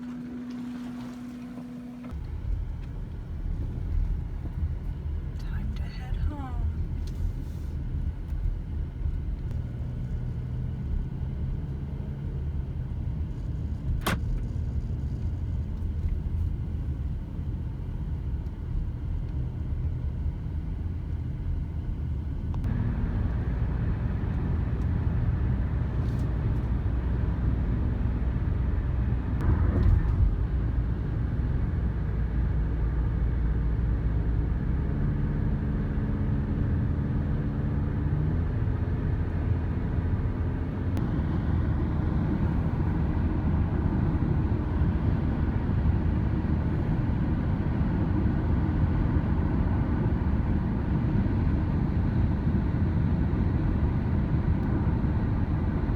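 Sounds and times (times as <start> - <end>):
motor engine rumbling: 0.0 - 55.9.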